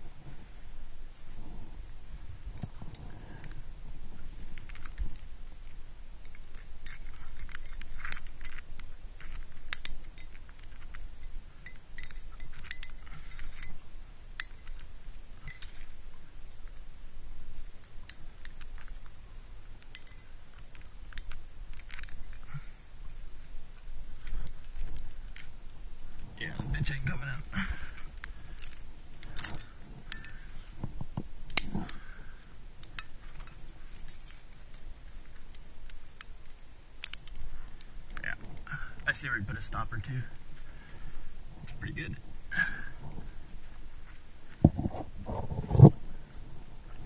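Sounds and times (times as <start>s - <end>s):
low steady rumble: 0.0s - 47.0s
metal climbing gear clinking: 0.1s - 47.0s.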